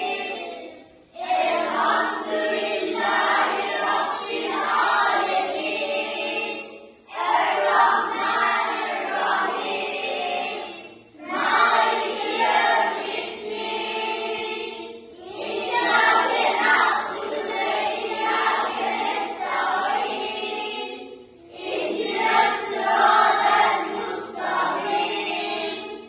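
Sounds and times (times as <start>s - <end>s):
group of voices singing: 0.0s - 26.0s.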